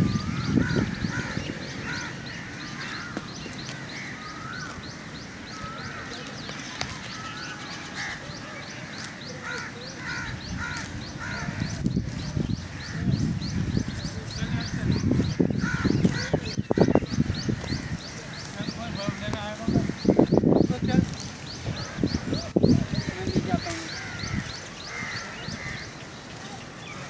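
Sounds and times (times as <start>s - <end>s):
lower bird calls: 0.0s - 27.0s.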